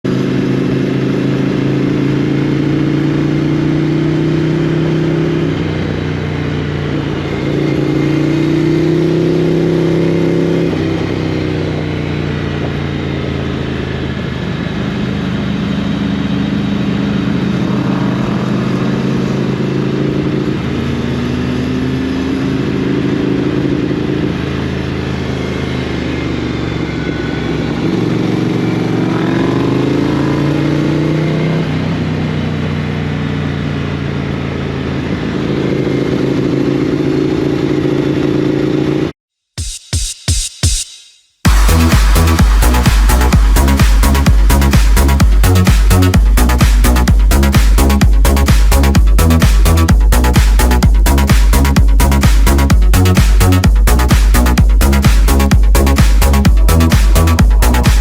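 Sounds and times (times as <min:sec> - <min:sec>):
motorcycle engine running: 0:00.0 - 0:39.1, 0:41.4 - 0:58.0.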